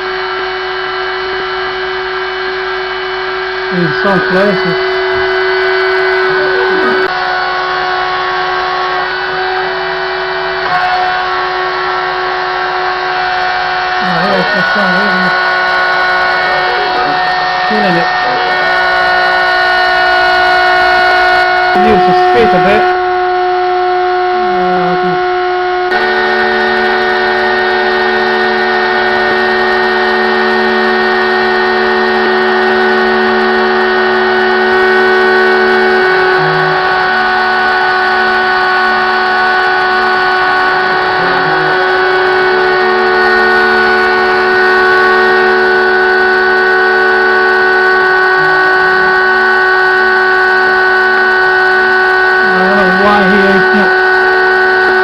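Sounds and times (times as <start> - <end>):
router spindle whine: 0.0 - 55.0.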